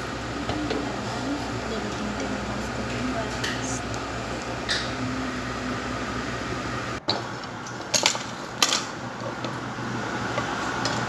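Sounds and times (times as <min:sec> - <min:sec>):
kitchen fan humming: 0:00.0 - 0:11.0.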